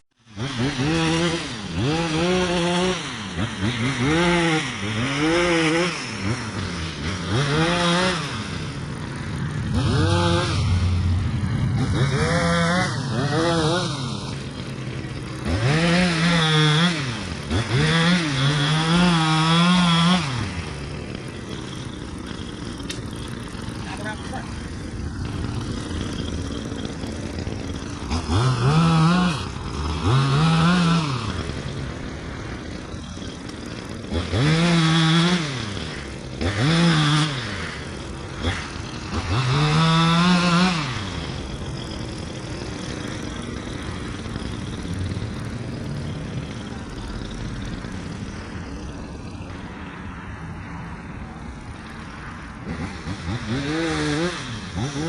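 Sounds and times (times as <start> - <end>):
two-stroke saw engine revving: 0.0 - 55.0.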